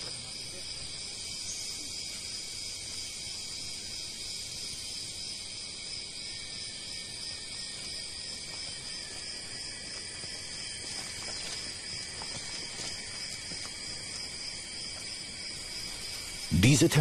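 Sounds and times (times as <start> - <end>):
high-pitched insect buzz: 0.0 - 17.0.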